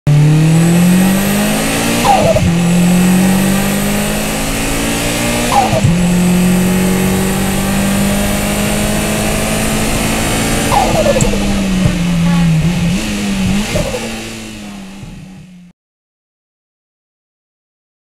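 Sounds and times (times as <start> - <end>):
turbocharged car engine accelerating: 0.1 - 15.7.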